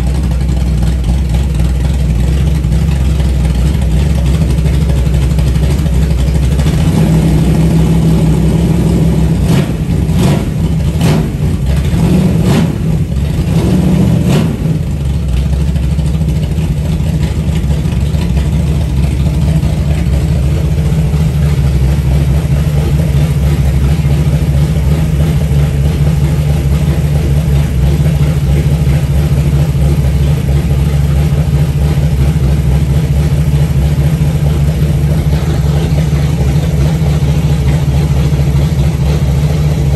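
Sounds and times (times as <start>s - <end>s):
engine throttle blips: 0.0s - 39.9s
loud engine running: 0.0s - 39.9s.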